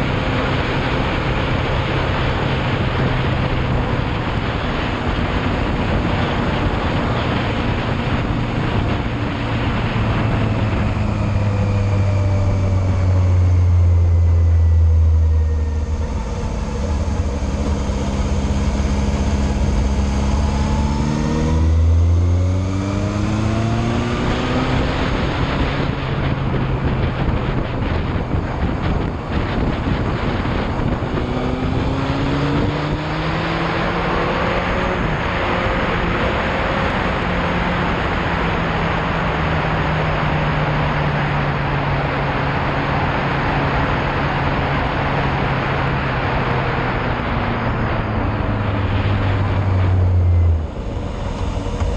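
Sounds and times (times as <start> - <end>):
motorcycle engine accelerating: 0.0 - 51.9
wind noise on microphone: 0.0 - 51.9.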